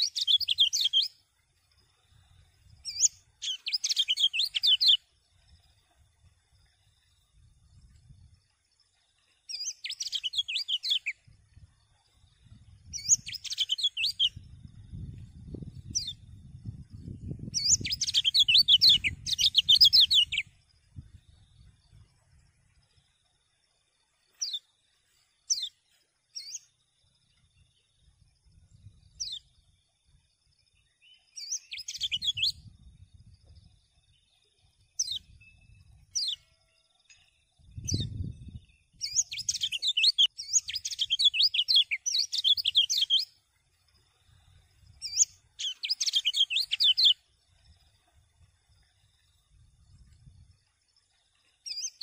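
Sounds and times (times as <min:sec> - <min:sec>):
bird twittering song: 0:00.0 - 0:52.0.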